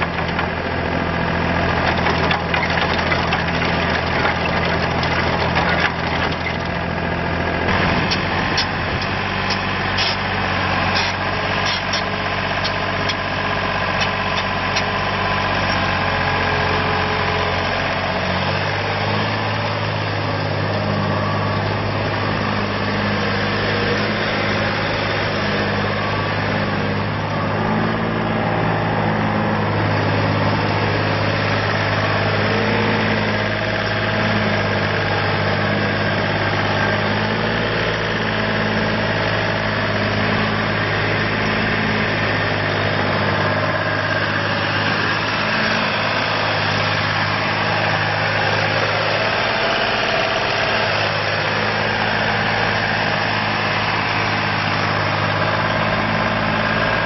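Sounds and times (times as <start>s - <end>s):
trencher engine running: 0.0s - 57.0s.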